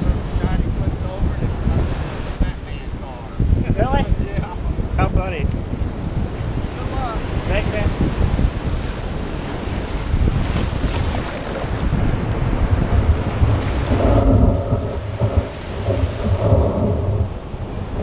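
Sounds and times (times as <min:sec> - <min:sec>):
surf washing in: 0:00.0 - 0:18.0
wind buffeting microphone: 0:00.0 - 0:18.0.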